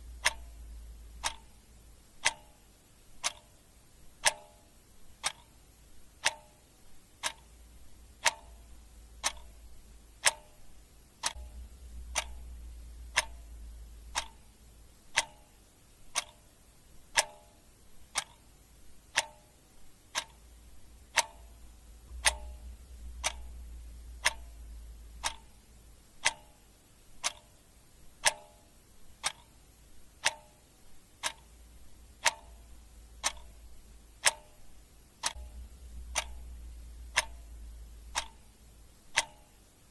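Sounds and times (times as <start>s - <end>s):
clock ticking: 0.0s - 39.9s
faint low rumble: 0.0s - 39.9s.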